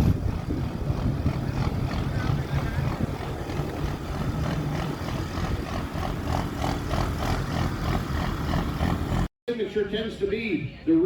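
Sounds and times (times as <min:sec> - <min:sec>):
truck engine running under load: 0:00.0 - 0:09.3.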